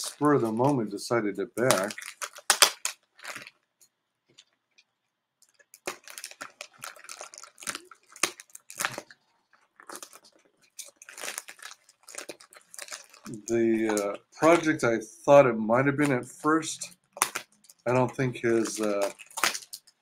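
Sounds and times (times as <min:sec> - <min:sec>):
packaging ripping and crinkling: 0:00.0 - 0:03.6, 0:05.4 - 0:14.8, 0:16.0 - 0:20.0.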